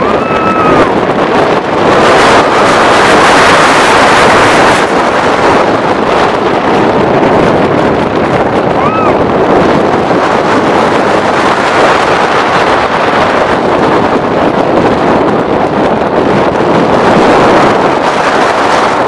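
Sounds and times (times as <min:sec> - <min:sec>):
roller coaster running on track: 0:00.0 - 0:19.0
wind rushing over microphone: 0:00.0 - 0:19.0.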